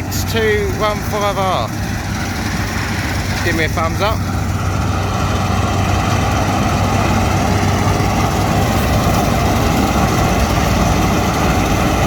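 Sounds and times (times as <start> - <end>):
diesel engine hum: 0.0 - 12.0.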